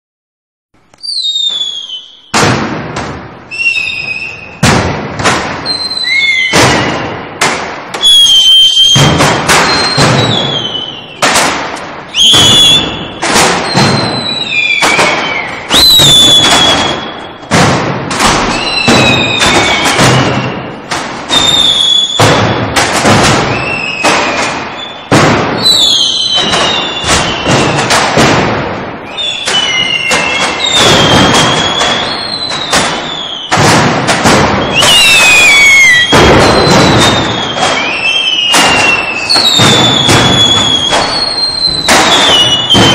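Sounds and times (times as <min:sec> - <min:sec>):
whistling fireworks: 0:00.8 - 0:42.9
firecracker bangs: 0:01.0 - 0:42.9.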